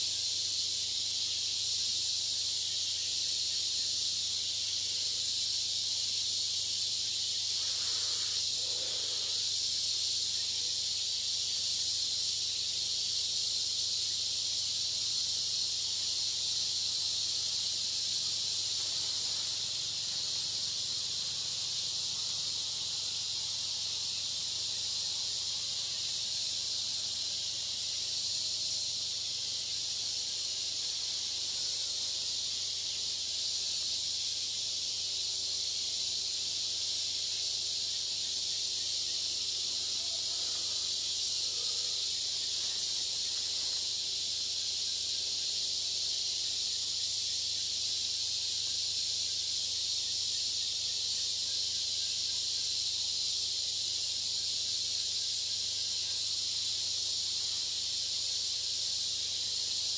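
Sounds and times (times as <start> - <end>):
insect chorus hiss: 0.0 - 59.9.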